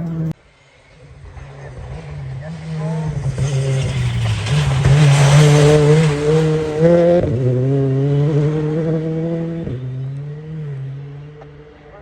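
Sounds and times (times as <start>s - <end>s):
rally car engine pulling hard: 0.0s - 12.0s.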